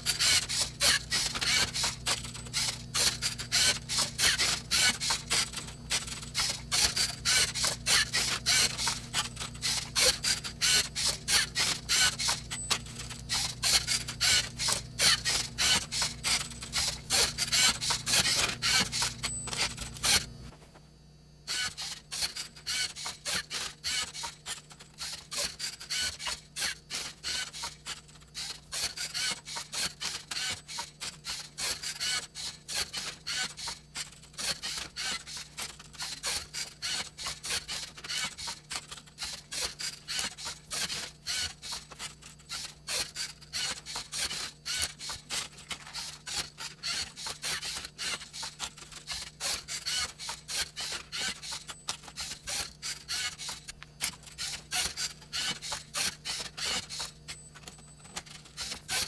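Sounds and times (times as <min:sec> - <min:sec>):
servo motors whirring: 0:00.0 - 0:20.8, 0:21.4 - 0:59.0.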